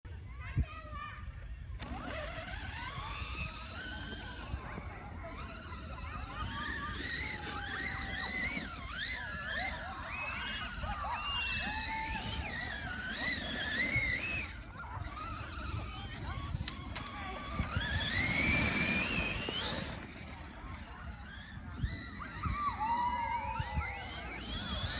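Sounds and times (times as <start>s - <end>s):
electric motor whining: 1.5s - 24.9s.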